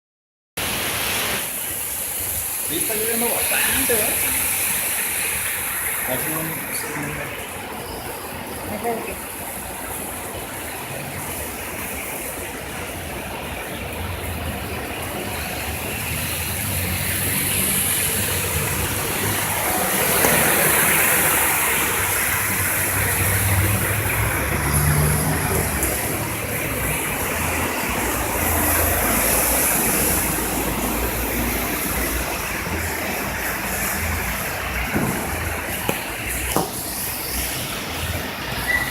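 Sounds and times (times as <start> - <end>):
heavy rain falling: 0.6 - 38.9.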